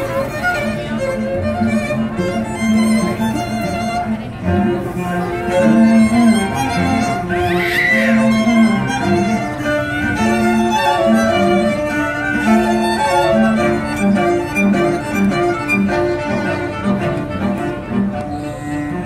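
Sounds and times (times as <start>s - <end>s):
string quartet playing: 0.0s - 19.0s.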